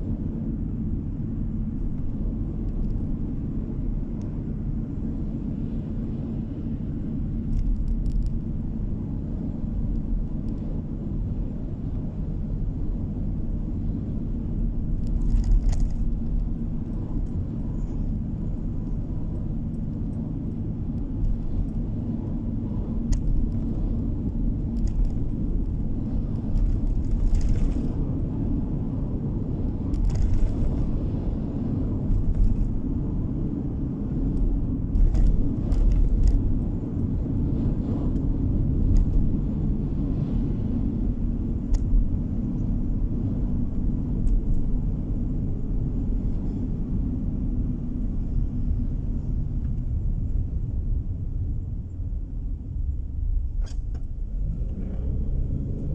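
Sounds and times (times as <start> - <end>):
car cabin road rumble: 0.0 - 55.9.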